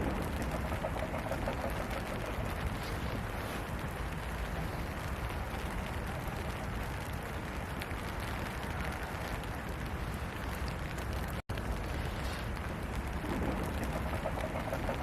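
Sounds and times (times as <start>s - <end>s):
low rumble: 0.0s - 15.0s
steady rain falling: 0.0s - 15.0s.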